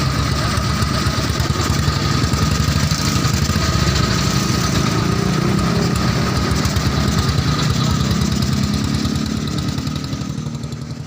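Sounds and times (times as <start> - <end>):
motorcycle engine running at low revs: 0.0 - 11.0.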